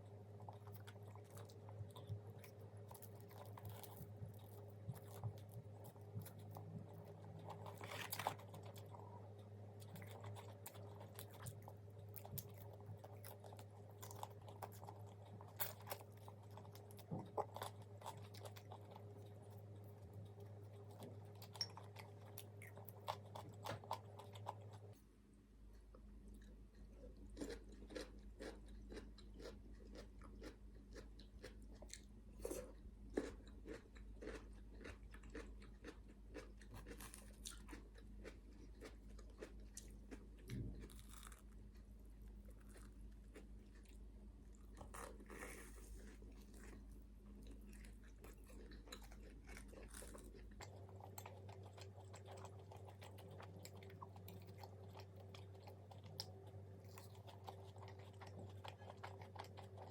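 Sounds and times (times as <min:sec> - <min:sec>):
chewing and crunching fried food: 0:00.0 - 0:59.9.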